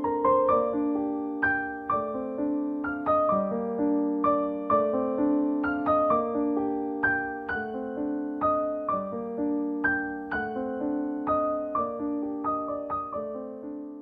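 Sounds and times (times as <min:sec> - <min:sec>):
gentle piano-like keyboard music: 0:00.0 - 0:14.0.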